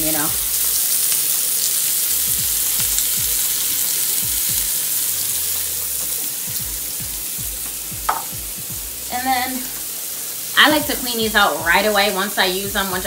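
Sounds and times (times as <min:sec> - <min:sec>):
burger patties sizzling: 0:00.0 - 0:13.0.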